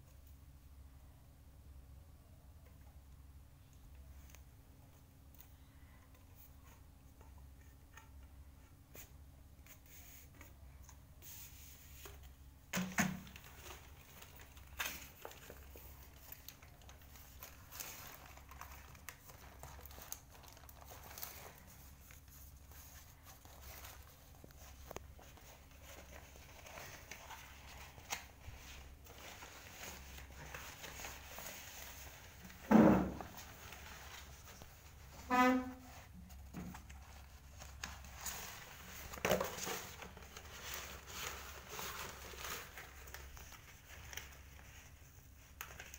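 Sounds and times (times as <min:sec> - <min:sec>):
plastic and paper crinkling: 0:08.9 - 0:45.9.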